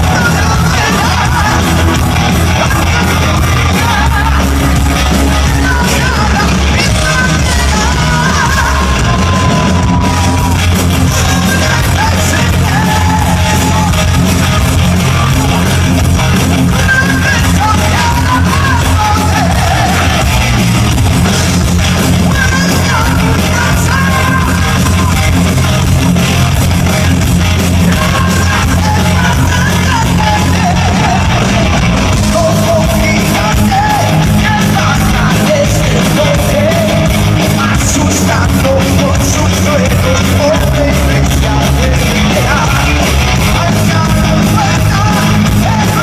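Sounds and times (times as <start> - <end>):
person shouted singing: 0.0 - 14.3, 16.7 - 20.6, 22.3 - 25.5, 27.8 - 46.0
rock band playing heavy music: 0.0 - 46.0.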